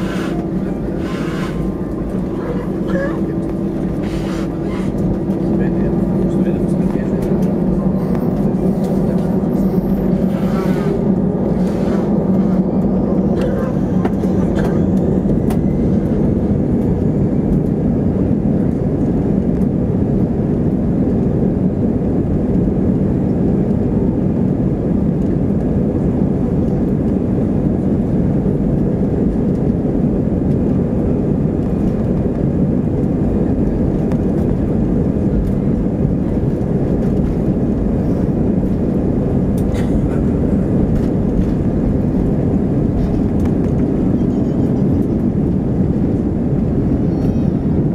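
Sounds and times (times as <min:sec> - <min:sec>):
jet engines rumbling in cabin: 0:00.0 - 0:47.9.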